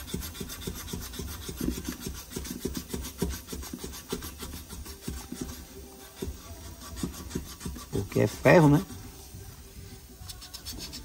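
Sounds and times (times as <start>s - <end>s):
sandpaper rubbing on metal tube: 0.0s - 11.0s.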